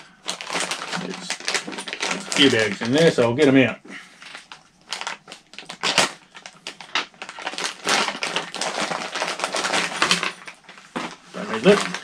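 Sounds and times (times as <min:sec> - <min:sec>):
plastic bags crinkling: 0:00.0 - 0:03.4, 0:04.2 - 0:12.0.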